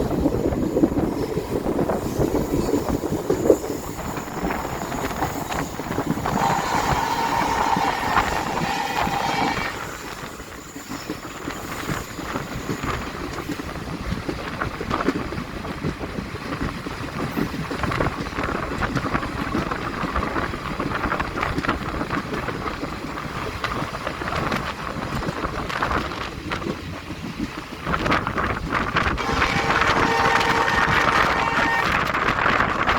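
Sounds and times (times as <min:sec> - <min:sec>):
moving train: 0:00.0 - 0:32.9
wind buffeting microphone: 0:00.0 - 0:32.9.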